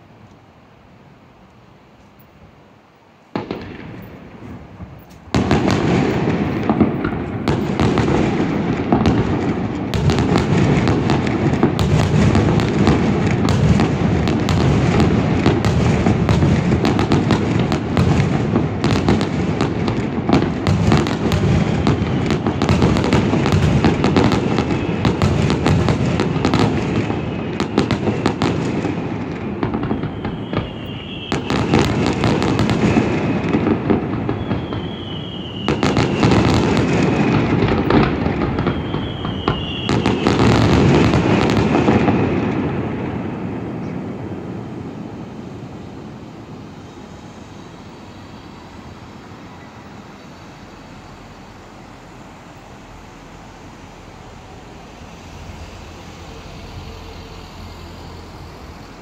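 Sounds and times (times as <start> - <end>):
fireworks bursting and crackling: 0.0 - 59.0
high firework whistle: 3.4 - 59.0.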